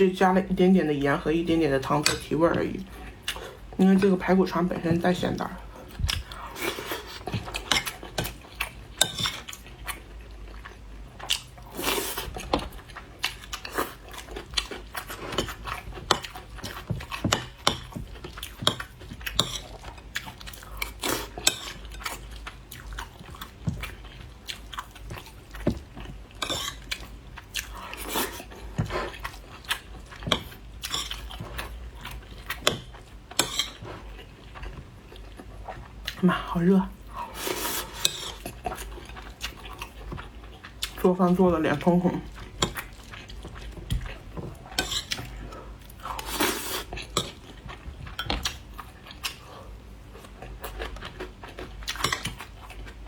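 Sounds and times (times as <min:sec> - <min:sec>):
person chewing food: 0:02.8 - 0:03.8, 0:05.6 - 0:36.2, 0:36.9 - 0:41.1, 0:41.8 - 0:53.0.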